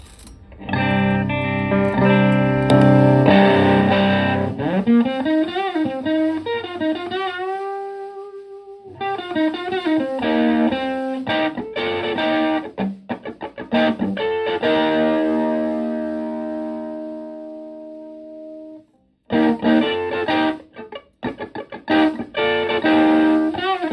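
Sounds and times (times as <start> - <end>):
overdriven electric guitar: 0.0 - 23.9.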